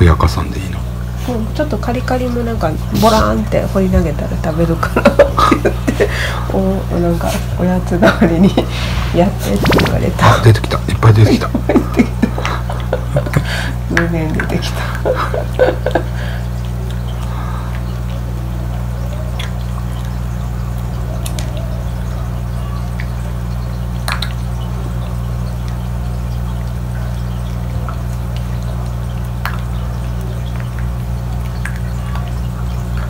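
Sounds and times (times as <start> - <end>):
low hum: 2.6 - 33.0.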